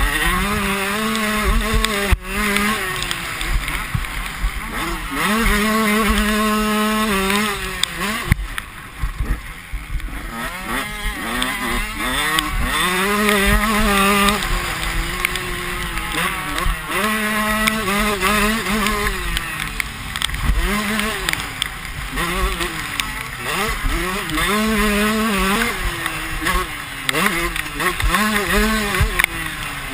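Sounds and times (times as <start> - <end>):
motocross bike engines revving: 0.0 - 29.9.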